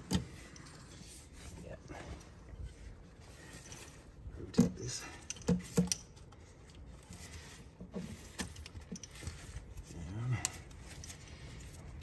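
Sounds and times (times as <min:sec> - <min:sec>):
clicks and knocks of handled parts: 0:00.0 - 0:01.3, 0:03.3 - 0:12.0.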